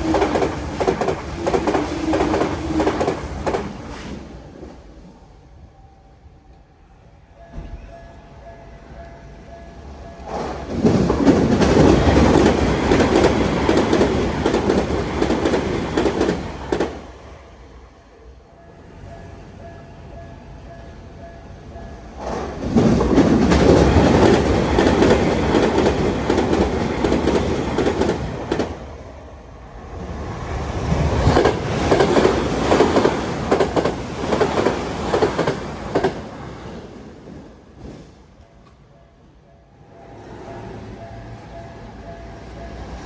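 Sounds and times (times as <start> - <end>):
electric trains passing: 0.0 - 43.0.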